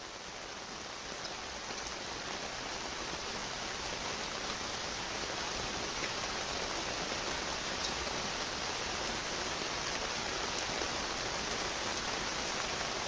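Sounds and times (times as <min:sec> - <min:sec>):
rain on a hard surface: 0:00.0 - 0:13.0.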